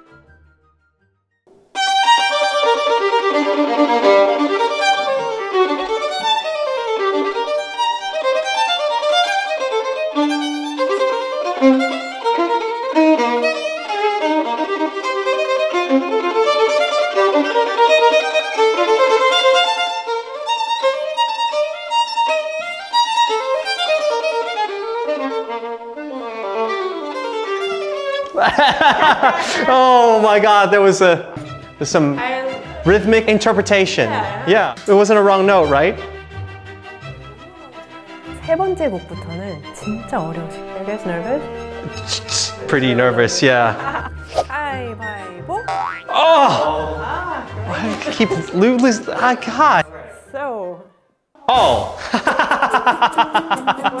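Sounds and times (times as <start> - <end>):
solo violin playing fast notes: 1.7 - 28.4, 29.1 - 46.0.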